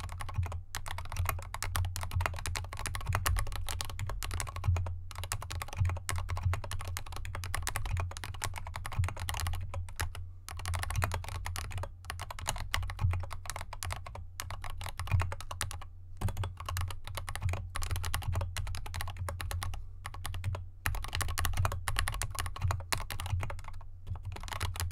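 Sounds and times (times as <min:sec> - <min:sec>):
fast typing on mechanical keyboard: 0:00.0 - 0:24.9.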